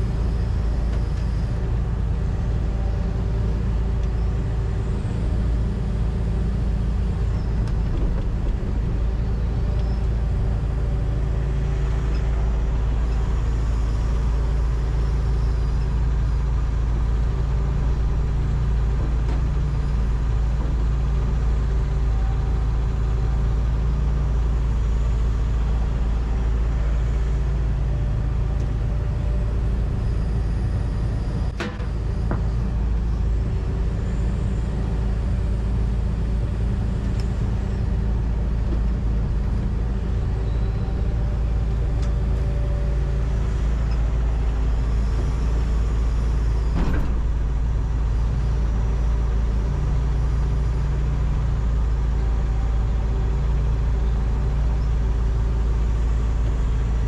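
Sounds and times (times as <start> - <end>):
excavator diesel engine and hydraulics: 0.0 - 57.0.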